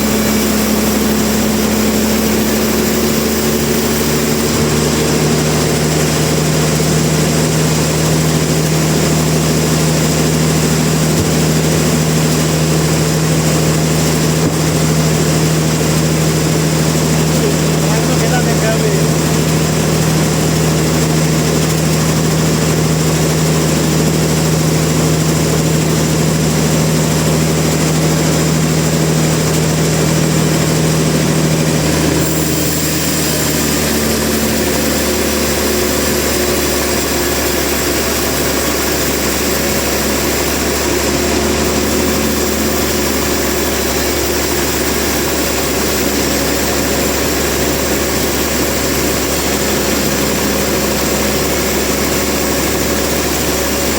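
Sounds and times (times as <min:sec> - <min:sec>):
heavy machinery running: 0:00.0 - 0:53.9
strong low hum: 0:00.0 - 0:53.9.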